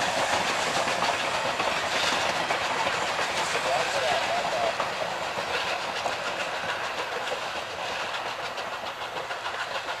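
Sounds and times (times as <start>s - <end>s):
steam locomotive exhaust chuffing: 0.0s - 10.0s
wheels clattering on rails: 0.0s - 10.0s.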